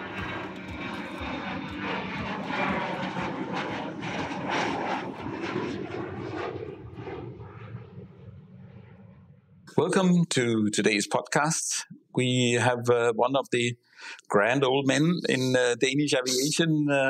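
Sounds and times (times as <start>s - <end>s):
airplane engine rush: 0.0s - 17.0s.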